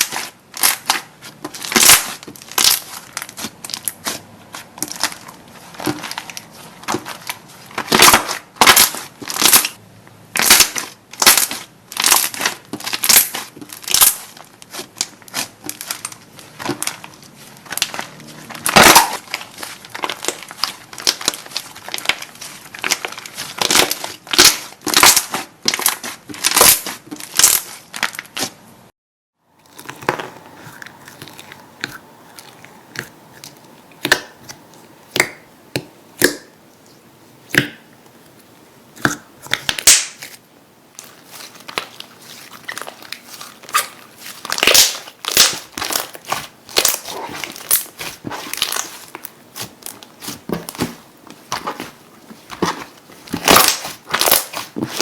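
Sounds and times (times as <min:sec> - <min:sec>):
slime crackling and popping: 0:00.0 - 0:28.6, 0:29.6 - 0:55.0.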